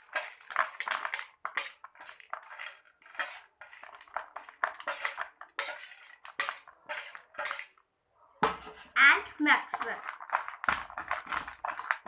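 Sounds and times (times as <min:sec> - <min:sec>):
crunchy snacks being stirred: 0:00.0 - 0:07.8, 0:09.2 - 0:12.0.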